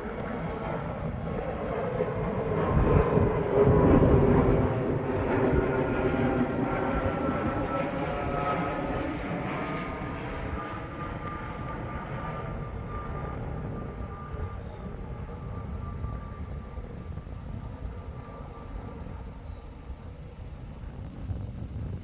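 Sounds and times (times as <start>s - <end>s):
jet airliner engines passing: 0.0s - 22.0s.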